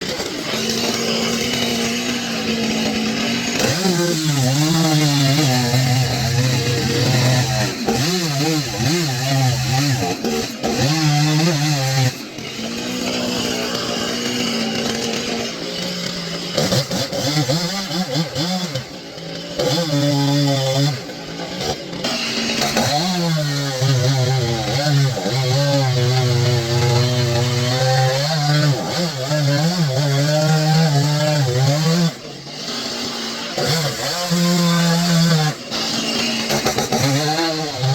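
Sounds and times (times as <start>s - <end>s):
chainsaw engine revving: 0.0s - 37.9s.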